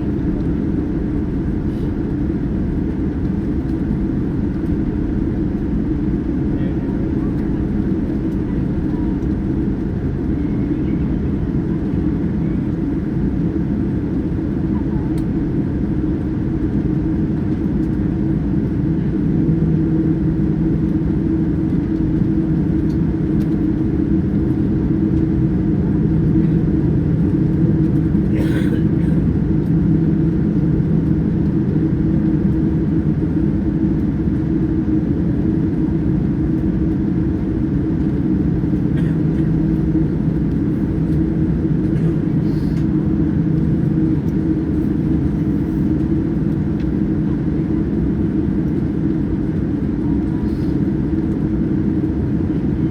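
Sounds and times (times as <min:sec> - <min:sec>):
airliner cabin engine hum: 0:00.0 - 0:52.9.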